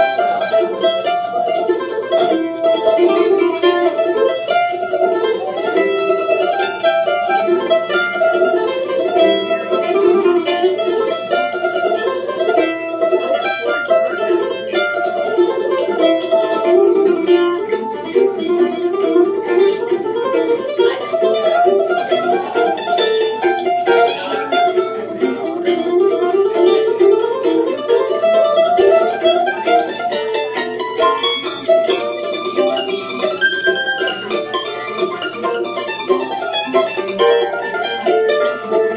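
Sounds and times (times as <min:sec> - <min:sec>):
mandolin picked notes: 0:00.0 - 0:38.9.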